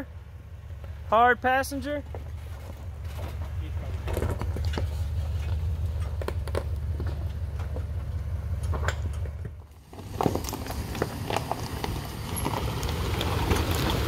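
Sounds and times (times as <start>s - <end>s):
truck engine running low: 0.0s - 14.0s
stones crunching under tyres: 2.0s - 14.0s.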